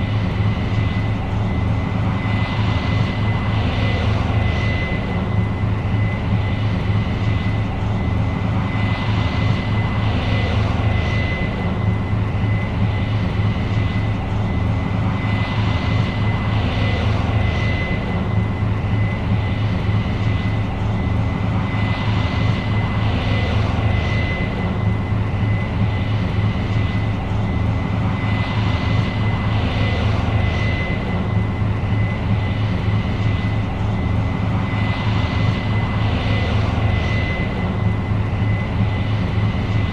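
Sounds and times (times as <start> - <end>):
combine harvester drone: 0.0 - 39.9
high-pitched whine: 0.0 - 39.9.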